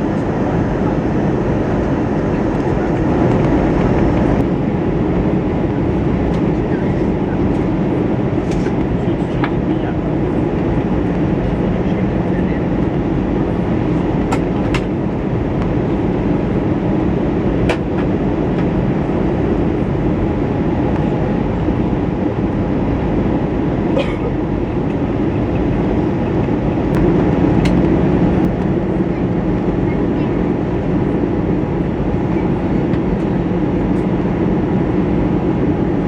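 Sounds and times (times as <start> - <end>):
aircraft cabin engine rumble: 0.0 - 36.0.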